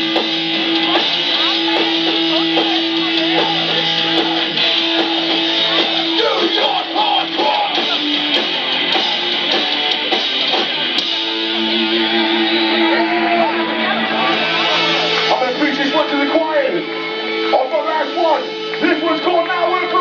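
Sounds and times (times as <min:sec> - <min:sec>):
distorted electric guitars: 0:00.0 - 0:20.0
punk band playing live: 0:00.0 - 0:20.0.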